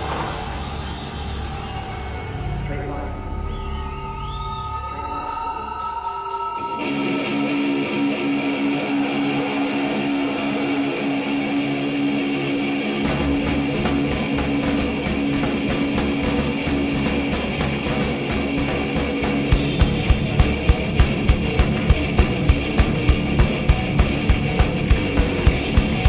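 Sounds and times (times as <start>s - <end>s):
distorted electric guitar riff: 0.0s - 26.0s
heavy drum and bass rhythm: 4.8s - 26.0s.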